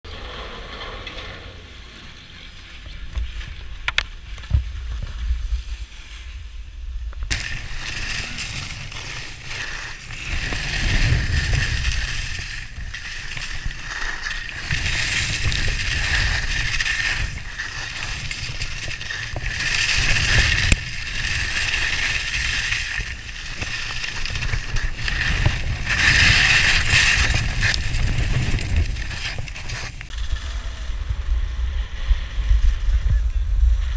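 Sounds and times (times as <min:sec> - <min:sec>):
wind rumbling on microphone: 0:00.0 - 0:33.9
skis scraping over snow: 0:00.1 - 0:33.9.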